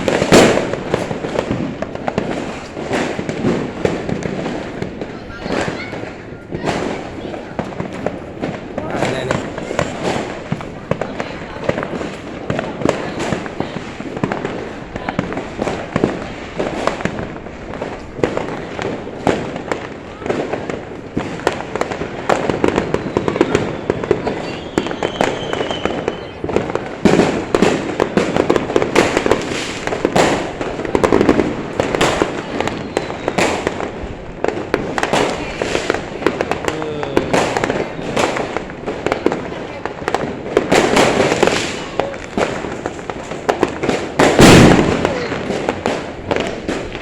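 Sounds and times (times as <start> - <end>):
fireworks bangs and crackles: 0.0 - 47.0
voices in background: 0.0 - 47.0.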